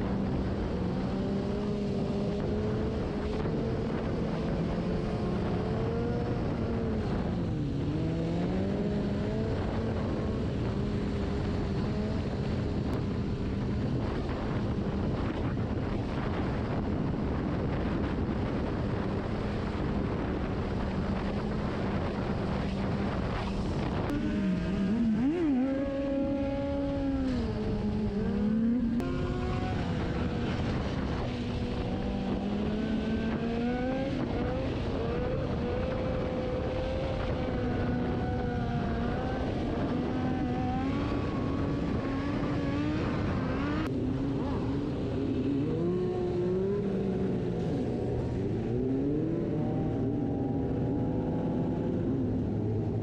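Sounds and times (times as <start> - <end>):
motorcycle engines revving: 0.0 - 53.0
steady rushing noise: 0.0 - 53.0.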